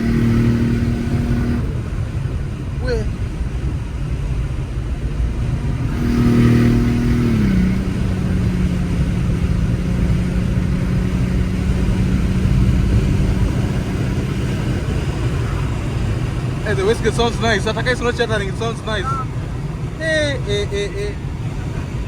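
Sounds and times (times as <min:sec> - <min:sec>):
car engine running: 0:00.0 - 0:22.0
road noise rumble: 0:00.0 - 0:22.0.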